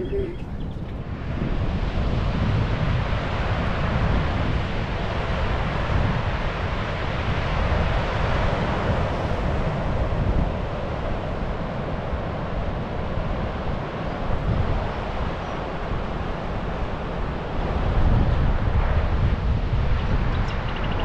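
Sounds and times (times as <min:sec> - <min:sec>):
wind rumbling on microphone: 0:00.0 - 0:21.0
ocean surf breaking on beach: 0:01.0 - 0:20.8.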